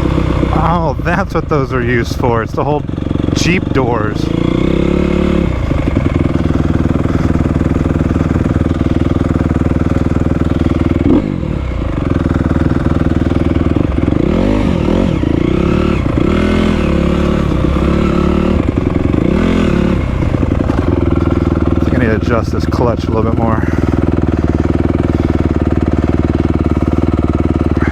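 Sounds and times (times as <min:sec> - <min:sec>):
dirt bike engine idling and revving: 0:00.0 - 0:27.9.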